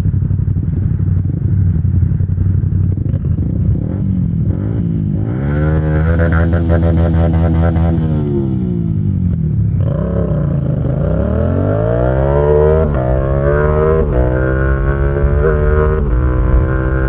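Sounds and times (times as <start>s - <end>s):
motorcycle engine accelerating: 0.0s - 17.0s
quickshifter upshifts: 0.0s - 17.0s.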